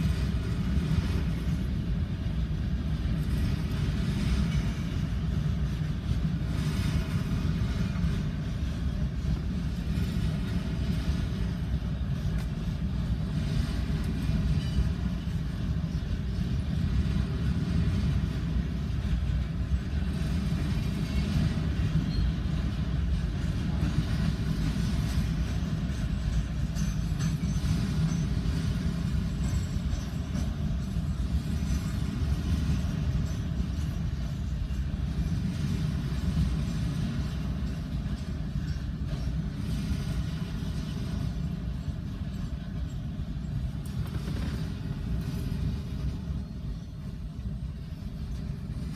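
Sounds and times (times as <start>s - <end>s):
freight train wheels rumbling on rails: 0.0s - 48.9s.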